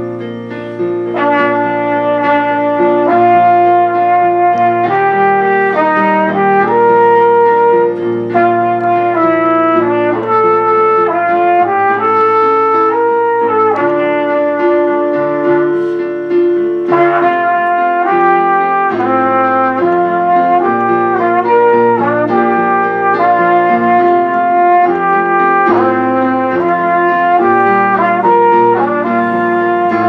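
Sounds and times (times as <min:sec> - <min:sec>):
brass melody over held chords: 0:00.0 - 0:30.0.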